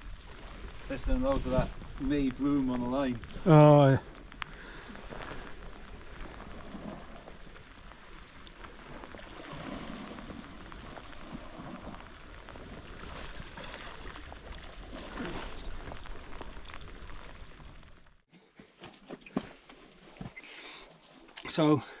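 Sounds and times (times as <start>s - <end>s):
steady rain falling: 0.0s - 18.2s.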